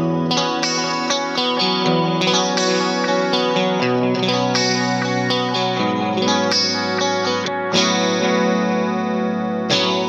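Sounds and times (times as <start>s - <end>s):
electric guitar chords: 0.0s - 10.0s.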